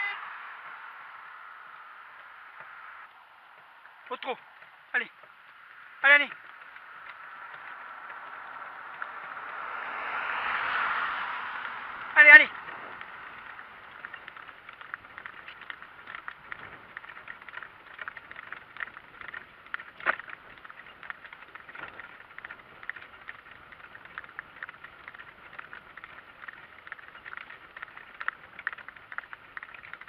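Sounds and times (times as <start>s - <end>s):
cart rattling over rough ground: 2.2s - 30.0s.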